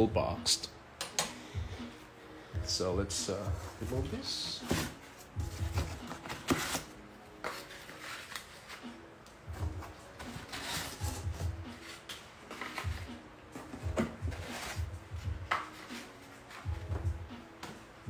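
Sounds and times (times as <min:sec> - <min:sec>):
cardboard packaging rustling: 0:02.6 - 0:18.0
cardboard scraping: 0:03.2 - 0:17.9.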